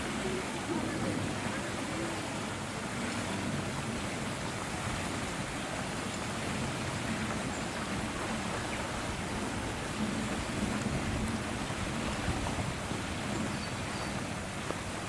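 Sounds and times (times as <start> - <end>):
rushing wind: 0.0 - 15.0
wind buffeting microphone: 0.0 - 15.0.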